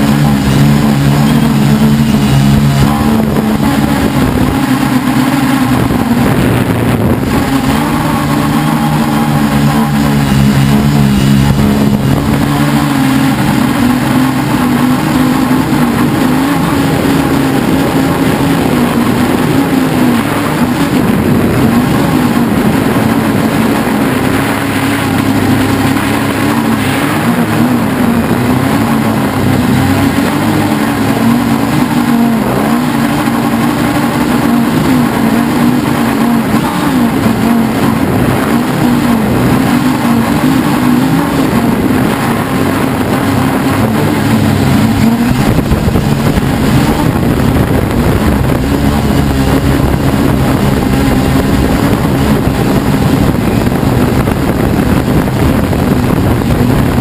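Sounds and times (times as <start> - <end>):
drone propellers buzzing: 0.0 - 57.0.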